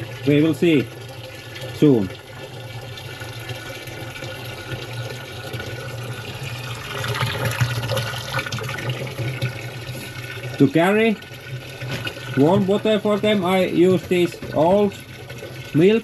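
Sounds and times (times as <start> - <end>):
water running from a tap: 0.0 - 16.0.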